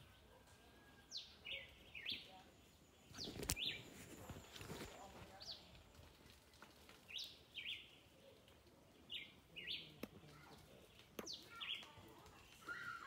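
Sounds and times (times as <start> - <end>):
bird chirping: 0.0 - 5.9, 7.0 - 13.0.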